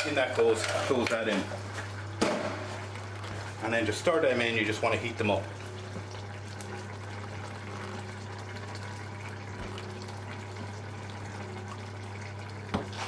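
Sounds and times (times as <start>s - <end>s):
curry simmering in saucepans: 0.0s - 13.0s.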